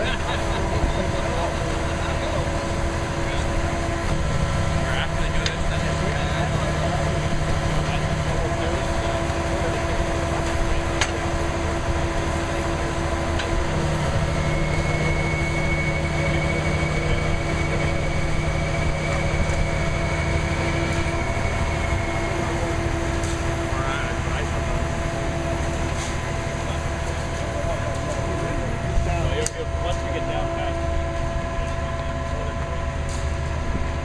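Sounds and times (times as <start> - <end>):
engine humming: 0.0 - 34.0
high whine: 0.0 - 34.0.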